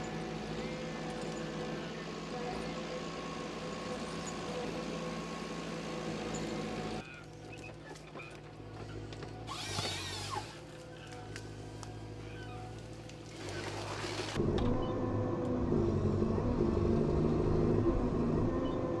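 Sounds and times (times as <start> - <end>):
harvester engine and hydraulics hum: 0.0 - 19.0.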